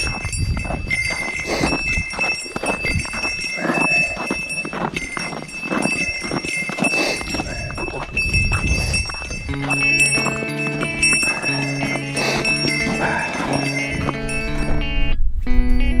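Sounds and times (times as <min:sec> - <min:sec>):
footsteps: 0:00.0 - 0:15.0
small bell jingling: 0:00.0 - 0:15.0.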